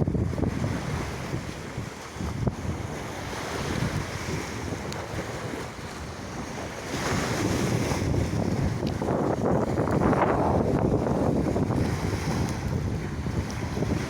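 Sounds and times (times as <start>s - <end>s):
sea waves washing in: 0.0s - 14.0s
wind buffeting microphone: 0.0s - 14.0s.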